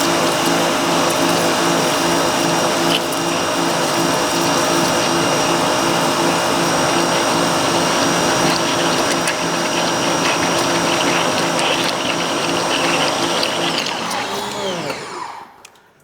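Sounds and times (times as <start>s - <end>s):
pressure washer motor drone: 0.0s - 15.9s.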